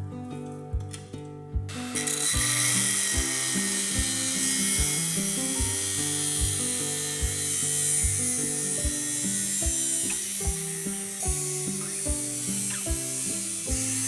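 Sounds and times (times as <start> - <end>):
background music with beat: 0.0 - 14.0
power tool on sheet metal: 1.7 - 14.0.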